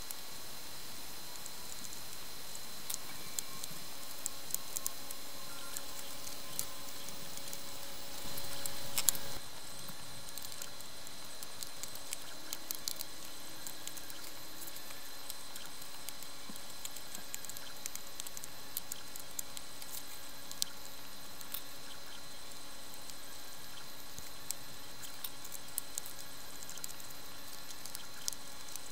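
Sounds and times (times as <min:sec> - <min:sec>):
steady hiss: 0:00.0 - 0:28.9.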